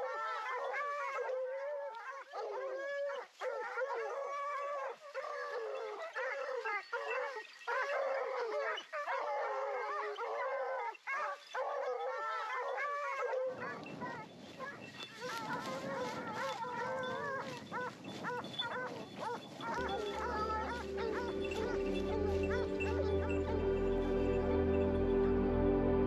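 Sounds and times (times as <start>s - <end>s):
pack of hounds baying: 0.0s - 26.0s.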